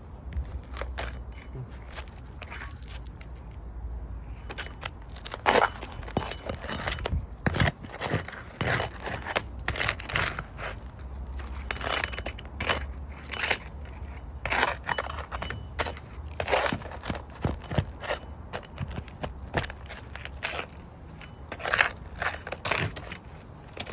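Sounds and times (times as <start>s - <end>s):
shingles cracking and scraping: 4.5s - 23.9s.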